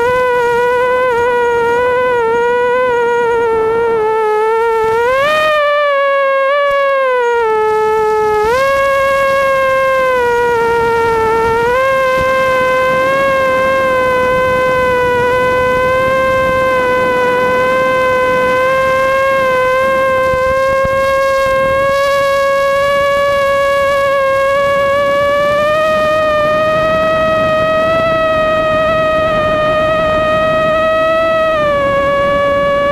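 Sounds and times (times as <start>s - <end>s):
quadcopter motors whining: 0.0s - 32.9s.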